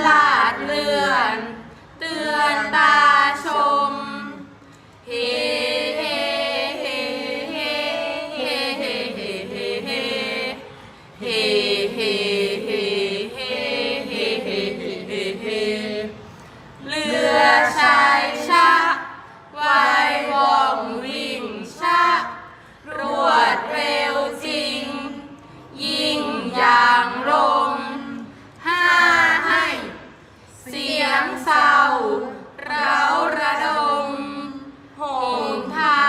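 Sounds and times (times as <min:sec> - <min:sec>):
group of voices chanting: 0:05.1 - 0:36.0.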